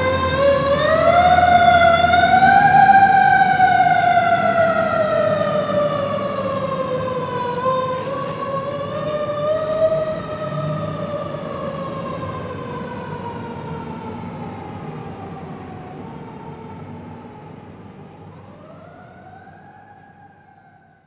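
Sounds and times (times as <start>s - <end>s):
vehicle rumbling on road: 0.0s - 20.7s
emergency vehicle siren wailing: 0.0s - 21.0s.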